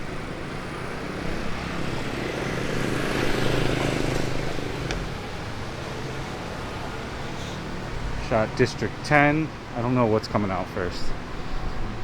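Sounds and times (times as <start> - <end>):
vehicle passing: 0.0 - 12.0.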